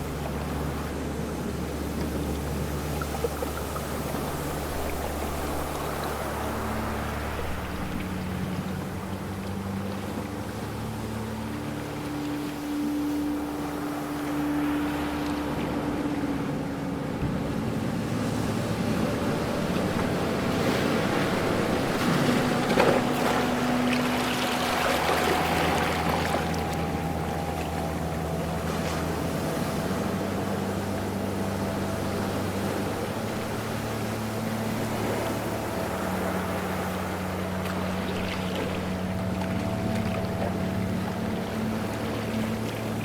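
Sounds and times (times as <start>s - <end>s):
low steady hum: 0.0s - 43.0s
ocean waves washing in: 0.0s - 43.0s.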